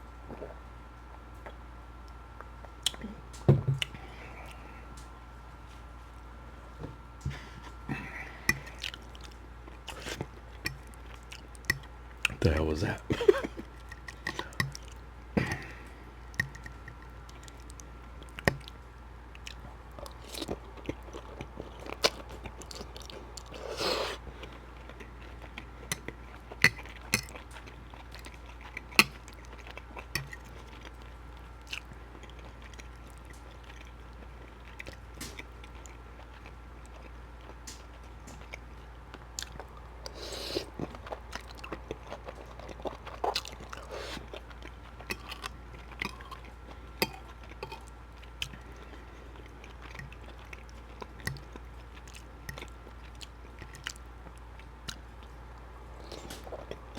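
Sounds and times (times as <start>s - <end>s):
steady low hum: 0.0s - 56.9s
close chewing and mouth smacks: 0.1s - 56.9s.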